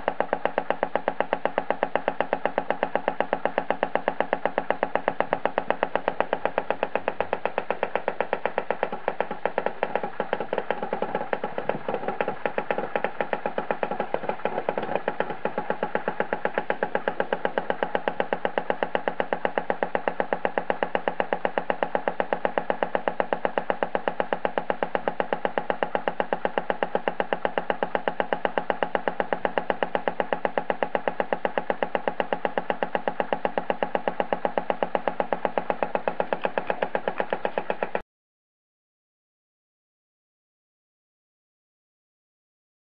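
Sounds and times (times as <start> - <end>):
rapid even ticking clicks: 0.0 - 38.0
steady machine hum: 0.0 - 38.0.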